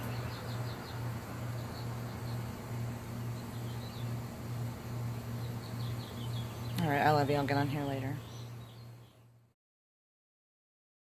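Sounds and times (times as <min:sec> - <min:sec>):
pulsing low hum: 0:00.0 - 0:09.5.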